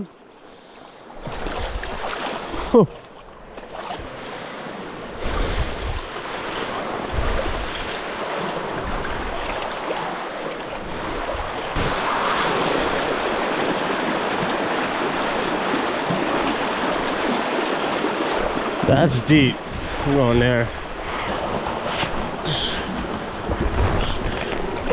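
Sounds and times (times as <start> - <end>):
river water rushing and splashing: 0.0 - 24.9.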